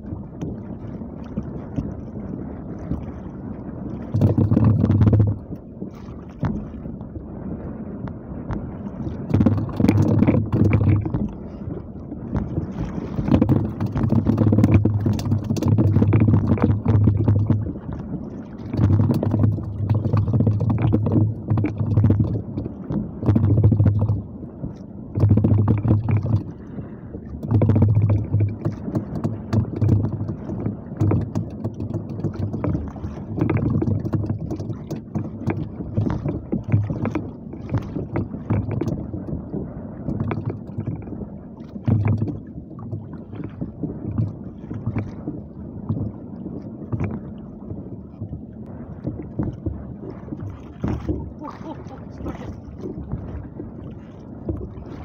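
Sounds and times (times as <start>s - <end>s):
water sloshing against boat hull: 0.0s - 55.0s
wind rumbling on microphone: 0.0s - 55.0s.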